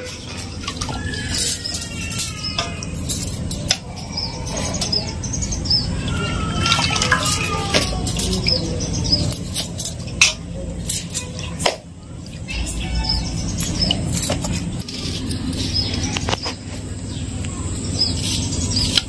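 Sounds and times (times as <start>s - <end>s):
bangles clinking against steel: 0.0s - 19.0s.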